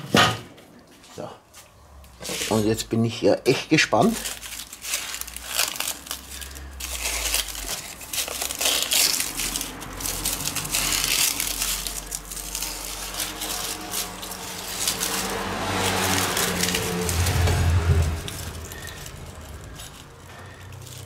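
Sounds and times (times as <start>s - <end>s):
dry corn husks crackling: 2.1s - 21.0s.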